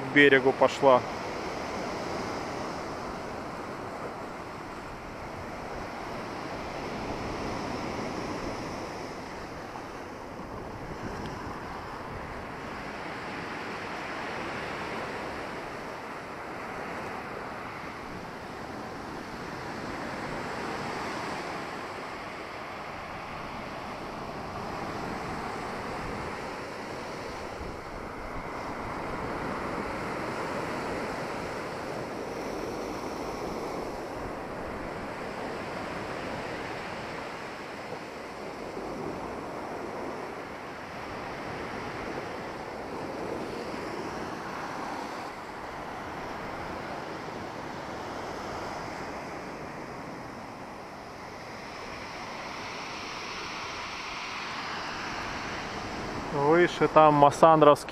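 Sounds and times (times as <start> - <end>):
surf on a pebble beach: 0.0 - 57.9
wind on microphone: 1.0 - 57.9.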